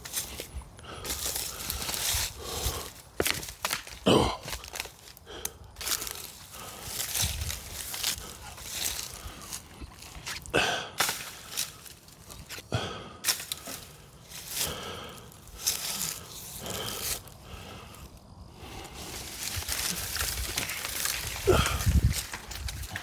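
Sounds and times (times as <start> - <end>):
brush and branches rustling: 0.0 - 23.0.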